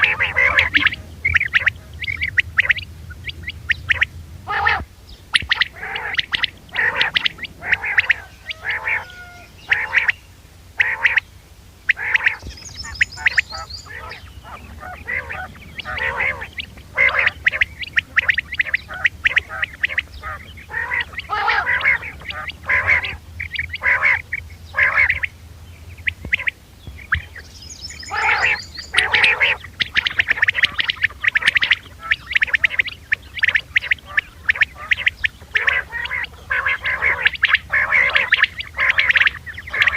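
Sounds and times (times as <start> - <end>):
low steady hum: 0.0 - 39.9
quail calling: 0.0 - 39.9.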